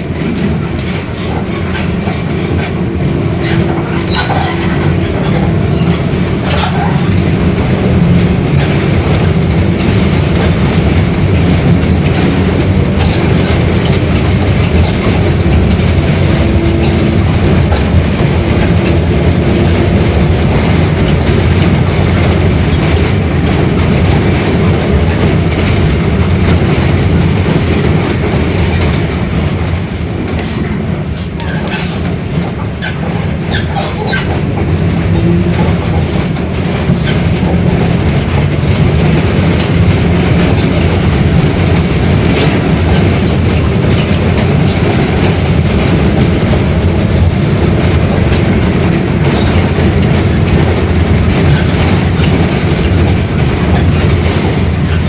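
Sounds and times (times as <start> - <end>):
bus diesel engine running: 0.0 - 55.0
rattles: 0.1 - 55.0.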